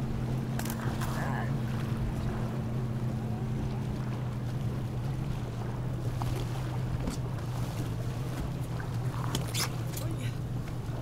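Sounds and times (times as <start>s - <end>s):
boat engine idling: 0.0s - 11.0s
choppy water: 0.0s - 11.0s
wind: 0.0s - 11.0s.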